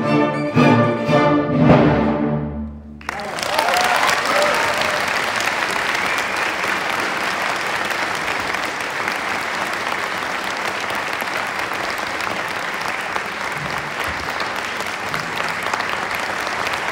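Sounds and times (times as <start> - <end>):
audience applauding: 3.0 - 16.9.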